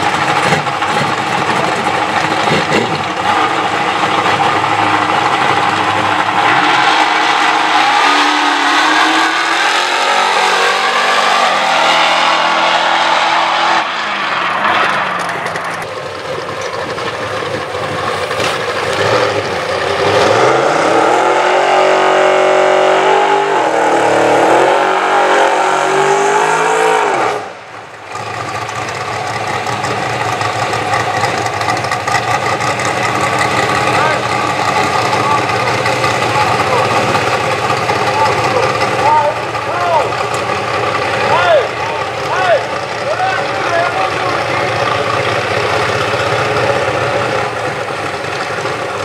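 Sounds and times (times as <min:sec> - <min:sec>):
car accelerating hard: 0:00.0 - 0:49.0
car engine revving: 0:00.0 - 0:49.0.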